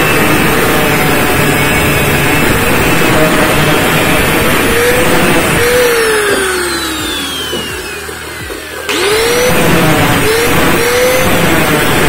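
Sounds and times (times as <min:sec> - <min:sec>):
angle grinder grinding steel: 0:00.0 - 0:12.0
grinder motor spinning down: 0:00.0 - 0:12.0.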